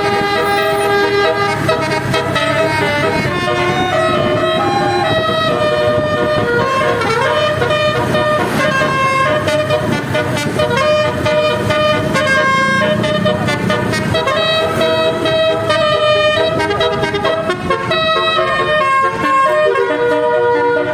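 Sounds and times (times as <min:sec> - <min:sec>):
multi-tone bus horn melody: 0:00.0 - 0:20.9.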